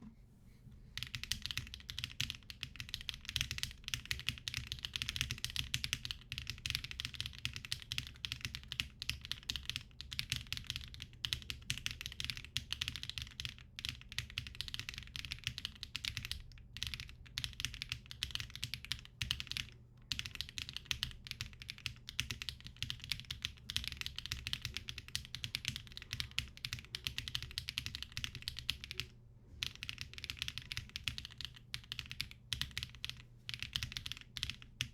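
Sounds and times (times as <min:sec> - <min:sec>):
fast mechanical keyboard typing: 0:01.0 - 0:34.9.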